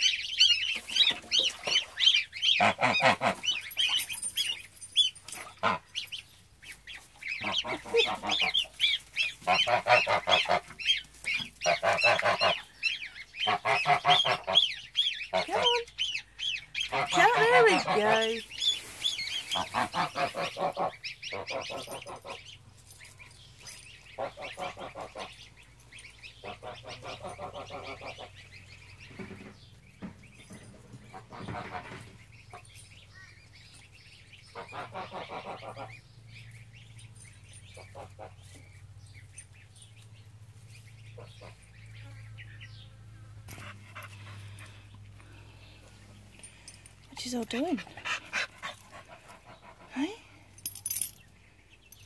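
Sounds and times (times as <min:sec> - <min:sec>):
geese and ducks calling: 0:00.0 - 0:23.2, 0:23.9 - 0:29.6, 0:30.3 - 0:36.8, 0:37.6 - 0:46.6.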